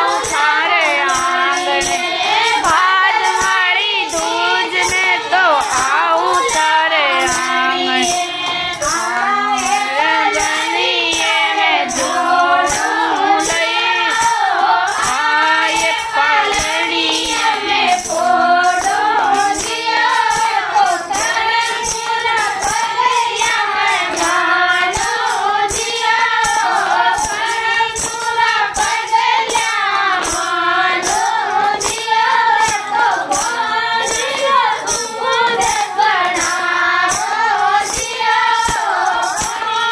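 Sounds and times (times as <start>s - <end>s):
hand claps beat: 0.0s - 39.9s
women singing in a group: 0.0s - 39.9s.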